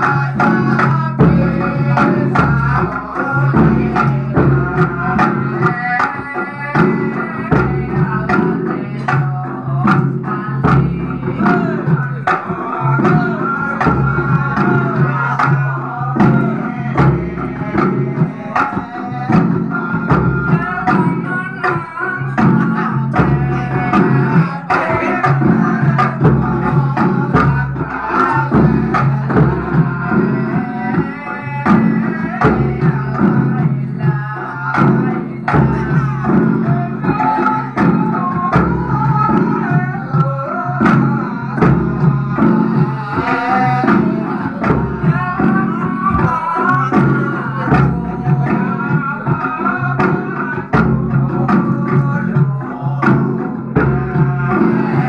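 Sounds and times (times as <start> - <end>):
frame drums beating: 0.0 - 55.0
person singing: 0.0 - 55.0.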